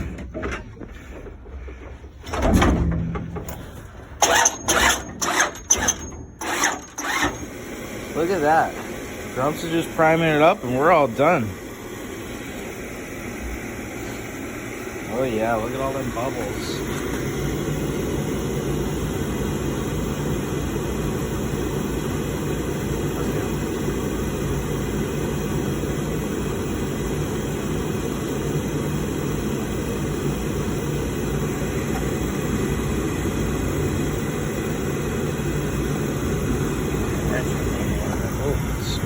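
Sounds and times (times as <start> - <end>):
oil burner motor humming: 0.0 - 39.0.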